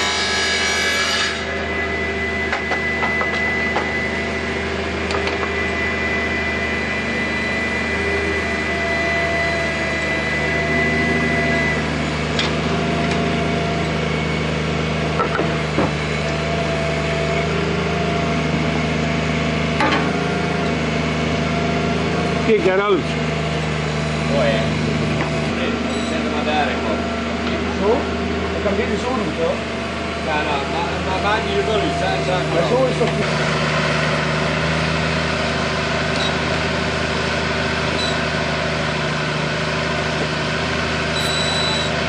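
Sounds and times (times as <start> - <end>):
diesel excavator engine running: 0.0 - 42.0.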